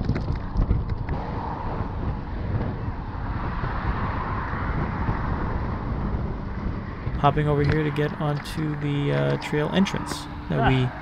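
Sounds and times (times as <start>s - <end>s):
tyre and traffic noise: 0.0s - 11.0s
wind buffeting microphone: 0.0s - 11.0s.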